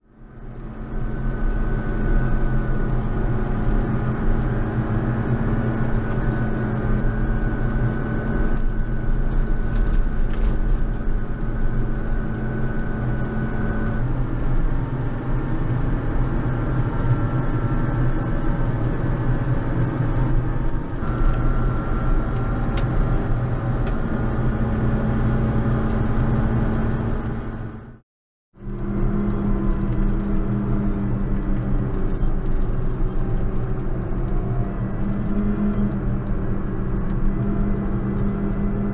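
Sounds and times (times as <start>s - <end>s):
high-pitched whine: 0.0s - 28.0s, 28.6s - 38.9s
tractor diesel engine under load: 0.0s - 28.0s, 28.6s - 38.9s.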